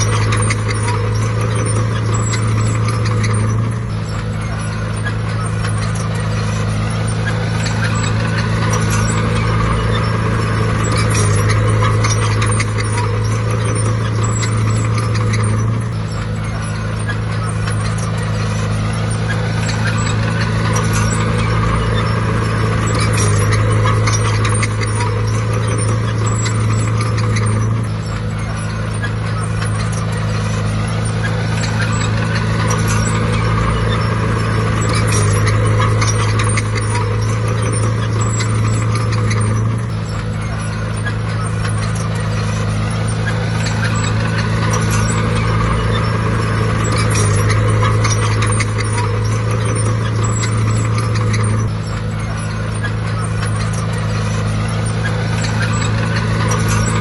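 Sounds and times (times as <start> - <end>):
bulldozer diesel engine droning: 0.0 - 57.0
machinery clanking: 0.0 - 57.0.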